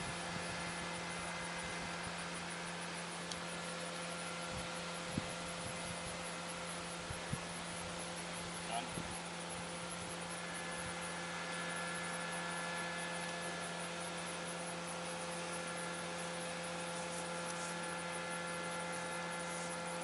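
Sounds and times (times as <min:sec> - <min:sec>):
steady tonal hum: 0:00.0 - 0:20.0.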